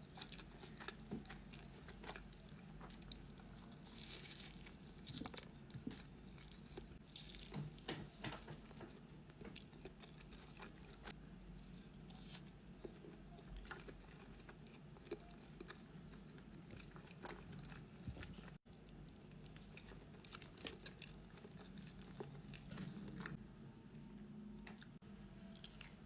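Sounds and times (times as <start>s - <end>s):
person chewing crunchy food: 0.0s - 7.8s, 8.6s - 26.0s.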